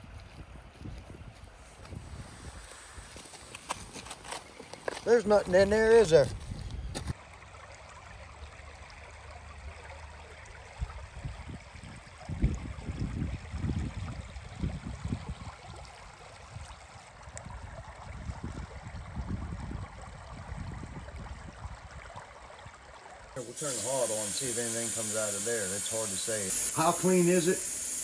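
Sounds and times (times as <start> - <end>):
creek water trickling over stones: 0.1 - 28.0.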